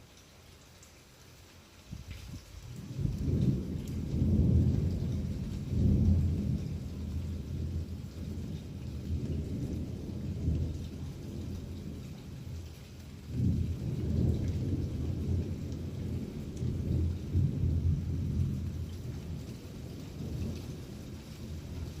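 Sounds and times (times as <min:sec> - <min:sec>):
faint rain hiss: 0:00.0 - 0:22.0
thunder rumbling: 0:02.7 - 0:12.6, 0:13.2 - 0:22.0.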